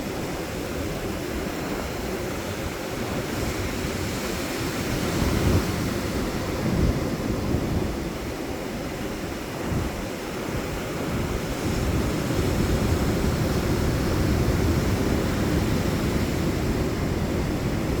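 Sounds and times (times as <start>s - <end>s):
sea surf washing onto beach: 0.1s - 18.0s.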